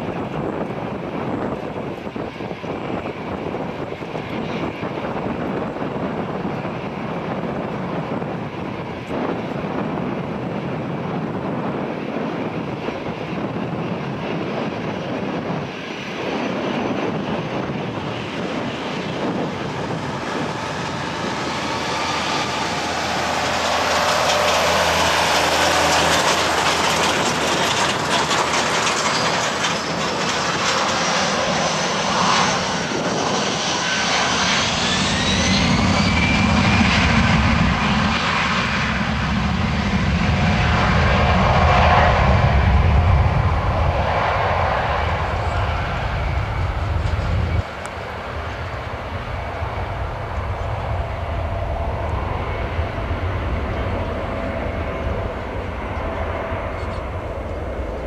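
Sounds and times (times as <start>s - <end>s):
deep jet engine rumble: 0.0s - 58.0s
jet engines whining: 0.0s - 58.0s.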